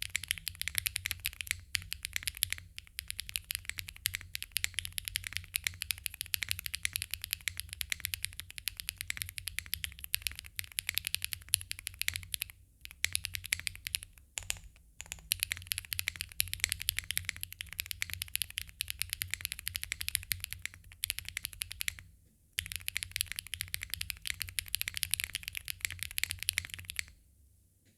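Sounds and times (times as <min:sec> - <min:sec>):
mechanical keyboard typing: 0:00.0 - 0:27.2.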